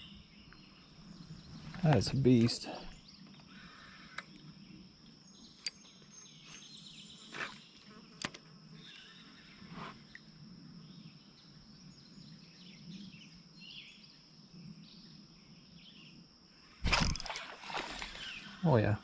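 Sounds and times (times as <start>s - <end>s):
faint bird chirps: 0.0s - 17.2s.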